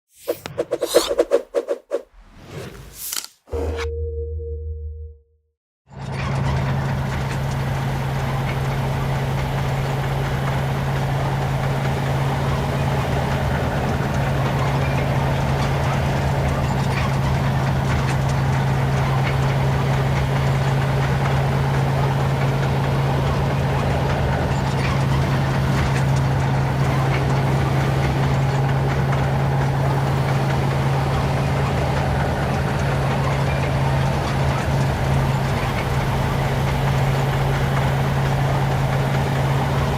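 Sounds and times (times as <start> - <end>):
tank engine running: 5.9 - 39.9
tank tracks rumbling and rattling: 5.9 - 39.9.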